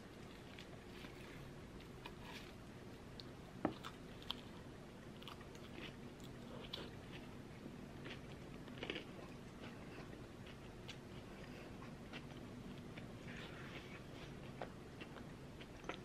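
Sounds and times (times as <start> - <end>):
close-up chewing: 0.2 - 16.0.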